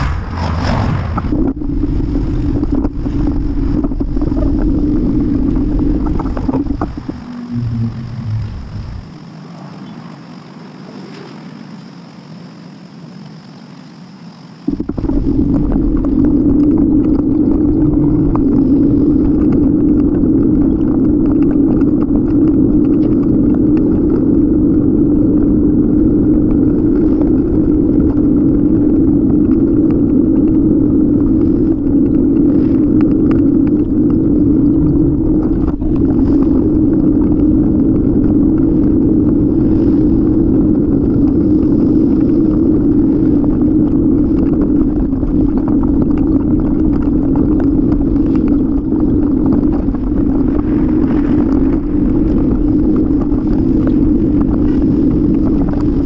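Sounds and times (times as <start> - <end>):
wind and road noise rumble: 0.0 - 56.0.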